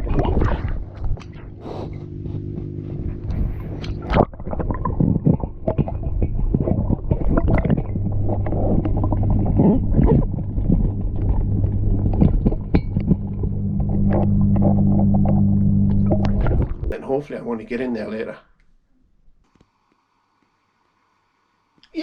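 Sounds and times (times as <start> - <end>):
electric pump humming: 0.0 - 18.2
water gurgling: 0.0 - 18.3.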